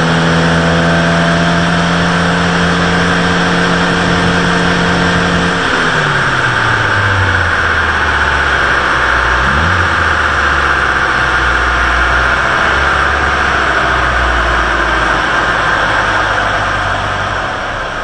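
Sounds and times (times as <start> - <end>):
car engine running steadily: 0.0 - 18.0
loud steady rushing noise: 2.6 - 18.0.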